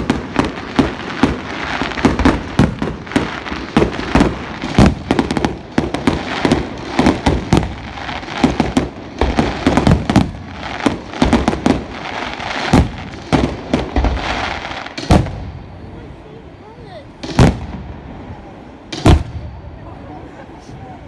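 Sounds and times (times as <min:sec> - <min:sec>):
fireworks crackle: 0:00.0 - 0:20.0
fireworks bangs: 0:00.0 - 0:20.1.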